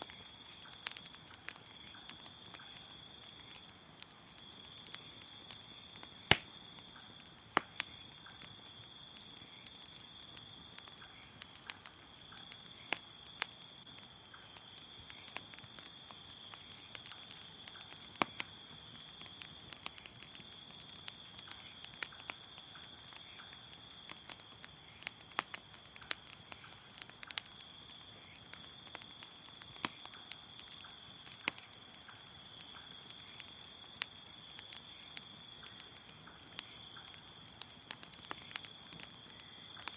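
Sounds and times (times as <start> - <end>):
bonfire pops and crackles: 0.0 - 39.9
crickets chirping: 0.0 - 39.9.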